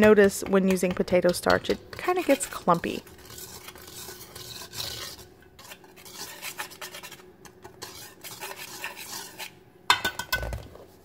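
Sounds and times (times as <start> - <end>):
whisk scraping in metal bowl: 0.0 - 9.6.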